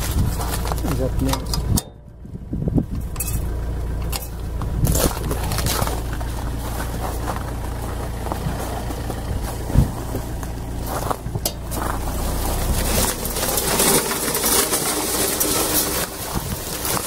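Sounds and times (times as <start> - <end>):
car engine running: 0.0 - 17.0
crunching and scraping: 0.0 - 17.0.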